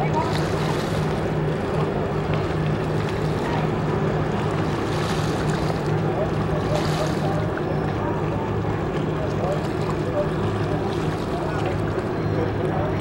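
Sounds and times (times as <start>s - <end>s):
boat diesel engines droning: 0.0s - 13.0s.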